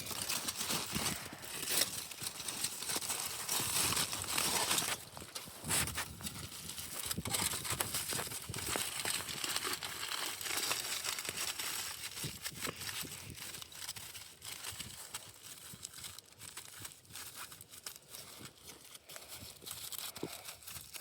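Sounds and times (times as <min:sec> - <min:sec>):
aluminium foil crinkling: 0:00.0 - 0:21.0.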